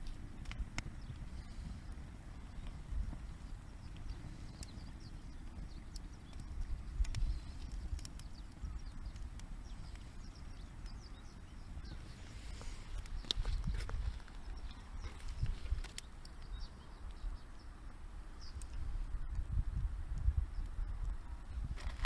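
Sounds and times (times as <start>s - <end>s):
campfire crackling: 0.0s - 22.0s
steady low rumble: 0.0s - 22.0s.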